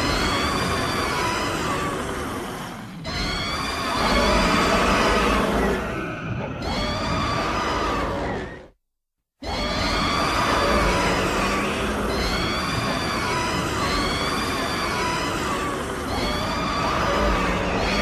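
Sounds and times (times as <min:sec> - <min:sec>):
monster roar screeching: 0:00.0 - 0:08.6, 0:09.4 - 0:18.0.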